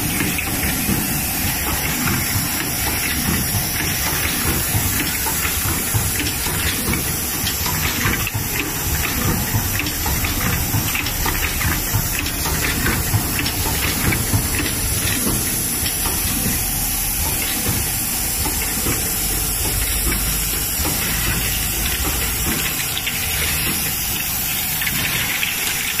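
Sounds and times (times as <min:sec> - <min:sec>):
machine clicking and clatter: 0:00.0 - 0:26.0.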